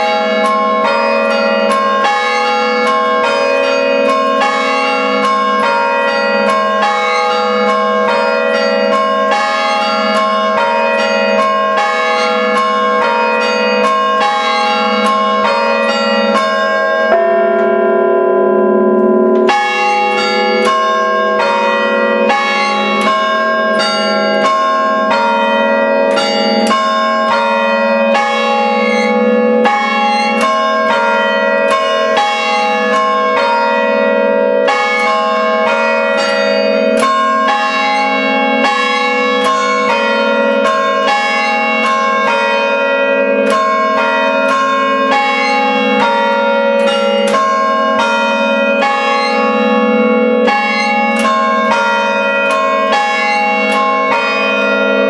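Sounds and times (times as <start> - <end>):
church bells chiming: 0.0 - 55.0.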